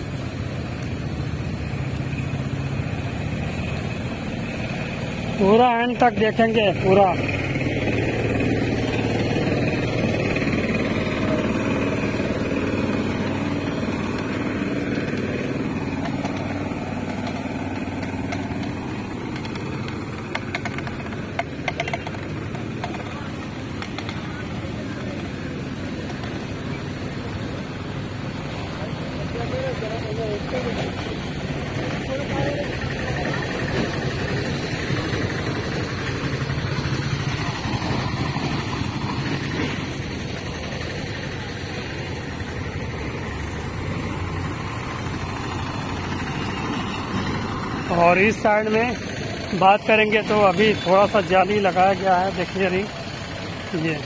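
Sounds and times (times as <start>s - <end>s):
steady rushing noise: 0.0s - 54.0s
vehicle engine running: 0.0s - 54.0s.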